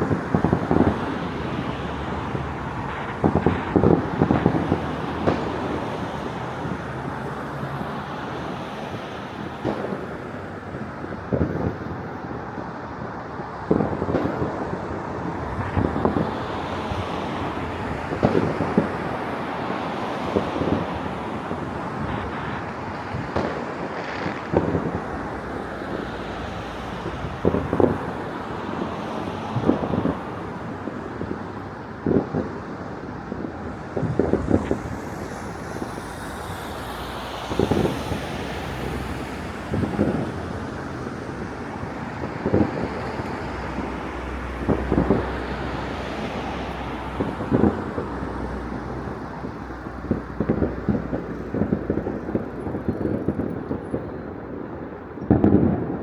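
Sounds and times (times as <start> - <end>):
distant fireworks banging: 0.0 - 56.0
traffic noise: 0.0 - 56.0.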